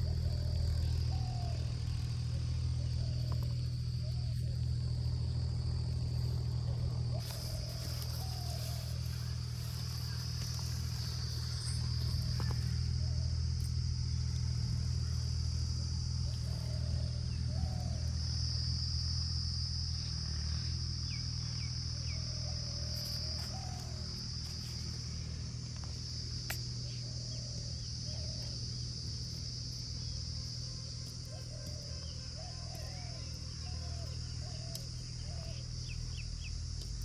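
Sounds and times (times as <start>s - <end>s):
high insect-like drone: 0.0s - 37.0s
steady low rumble: 0.0s - 37.0s.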